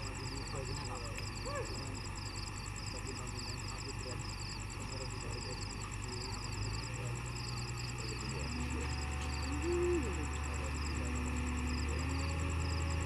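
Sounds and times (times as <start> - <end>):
heavy machinery engine drone: 0.0 - 13.0
insects chirping: 0.0 - 13.0.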